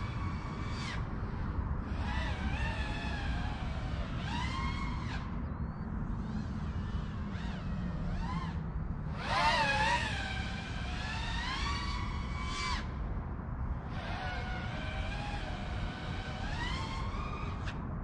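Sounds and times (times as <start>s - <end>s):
drone motors whining: 0.0s - 13.1s, 13.7s - 17.8s
low wind rumble: 0.0s - 18.0s.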